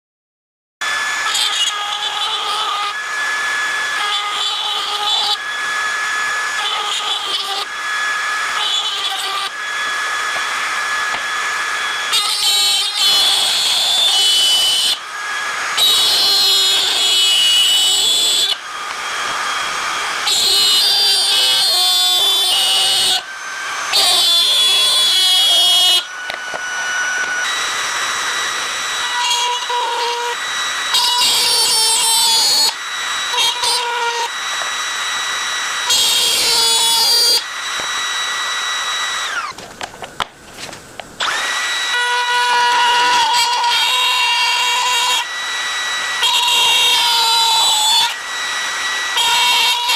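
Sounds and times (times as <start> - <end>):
power tool motor whining: 0.8 - 49.9.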